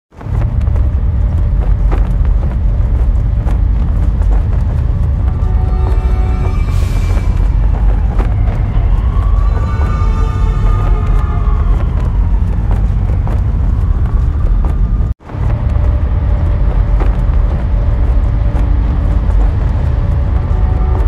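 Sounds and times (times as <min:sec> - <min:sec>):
distant traffic: 0:00.1 - 0:21.0
low city rumble: 0:00.1 - 0:21.0.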